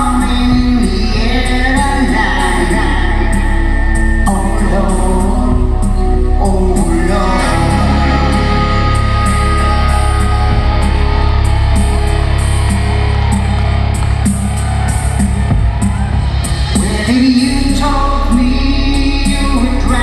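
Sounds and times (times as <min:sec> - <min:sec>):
person singing: 0:00.0 - 0:14.0, 0:15.8 - 0:20.0
deep bass: 0:00.0 - 0:20.0
electric guitar: 0:00.0 - 0:20.0
held synthesizer chords: 0:00.0 - 0:20.0
live band music: 0:00.0 - 0:20.0.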